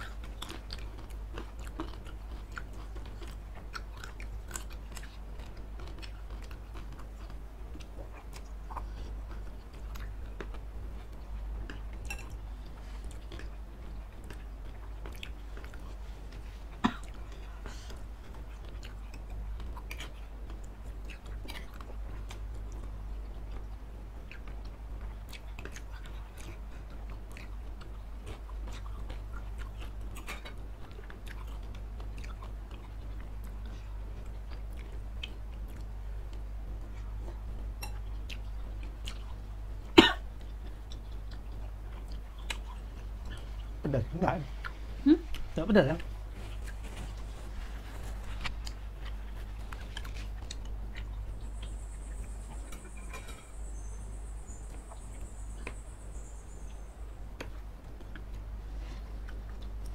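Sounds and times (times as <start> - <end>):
chewing and biting food: 0.0 - 39.6, 40.4 - 43.9, 44.5 - 56.8, 57.4 - 59.9
steady low hum: 0.0 - 59.9.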